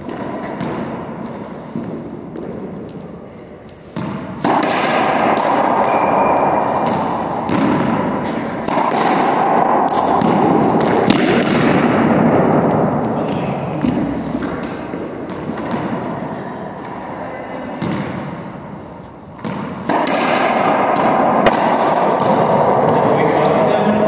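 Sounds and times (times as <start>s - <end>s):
ball bangs echoing in court: 0.0s - 2.8s, 4.0s - 16.3s, 17.6s - 18.6s, 19.4s - 24.0s.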